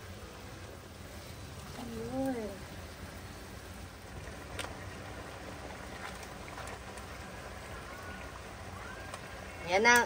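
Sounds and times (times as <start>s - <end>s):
wok simmering hiss: 0.0s - 10.0s.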